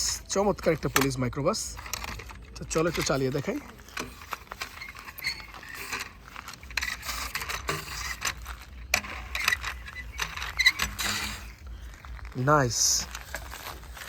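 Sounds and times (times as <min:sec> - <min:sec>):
toy wheels clicking and rattling: 0:00.0 - 0:14.0.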